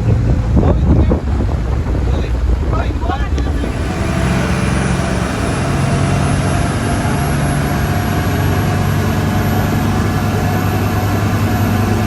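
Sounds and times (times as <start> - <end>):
boat engine drone: 0.0 - 12.0
wind and water rushing: 0.0 - 12.0.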